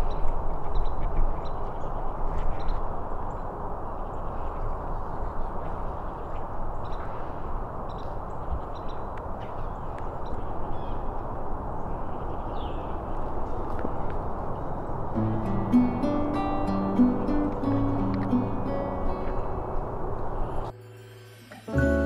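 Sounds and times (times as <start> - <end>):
low rushing background: 0.0 - 22.0.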